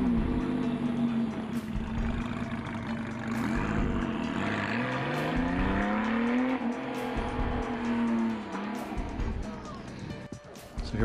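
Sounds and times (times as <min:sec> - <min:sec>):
car engine accelerating: 0:00.0 - 0:10.3.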